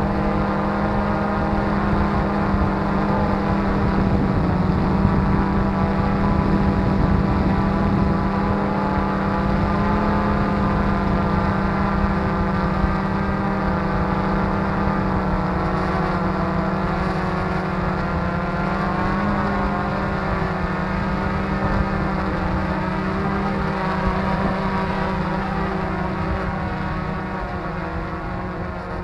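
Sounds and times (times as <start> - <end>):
quadcopter propellers humming: 0.0 - 29.0.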